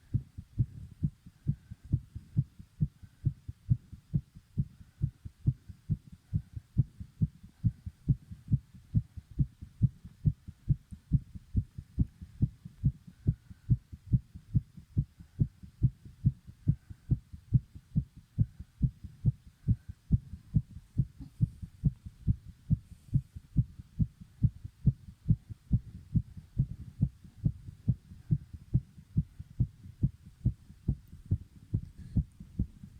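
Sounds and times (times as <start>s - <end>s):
fast pounding heartbeat: 0.0s - 32.9s.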